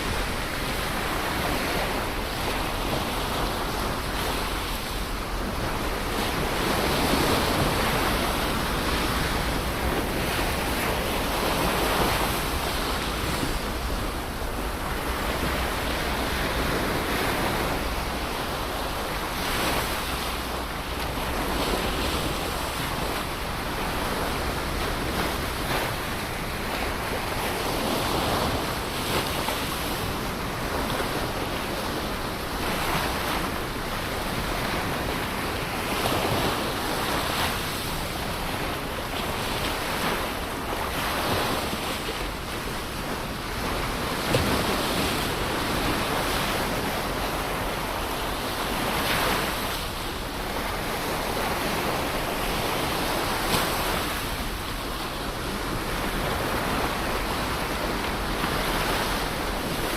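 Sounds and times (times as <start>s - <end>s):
waves breaking on a shore: 0.0s - 59.9s.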